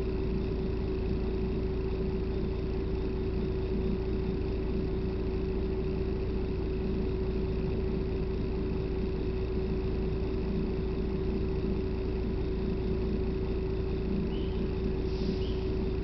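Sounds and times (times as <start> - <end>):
bus cabin low rumble: 0.0 - 16.0
constant hum: 0.0 - 16.0.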